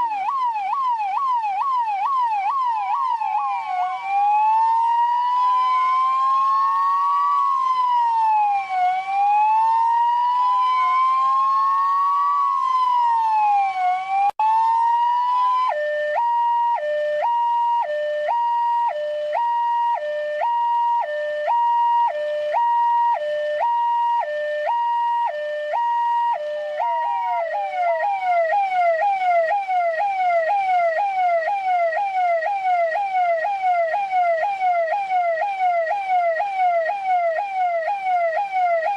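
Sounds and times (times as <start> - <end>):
police car electronic siren: 0.0 - 38.9.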